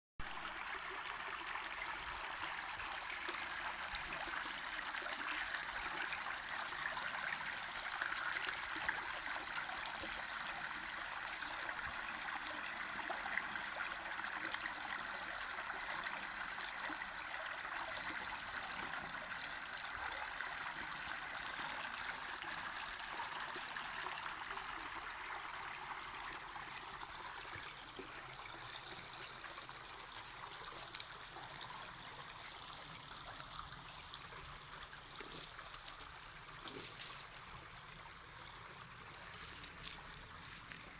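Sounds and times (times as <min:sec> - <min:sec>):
stream water flowing: 0:00.2 - 0:40.9.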